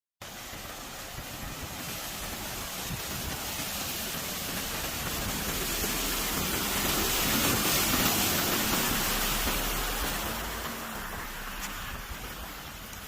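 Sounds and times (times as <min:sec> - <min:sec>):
water rushing in a street: 0:00.2 - 0:13.0.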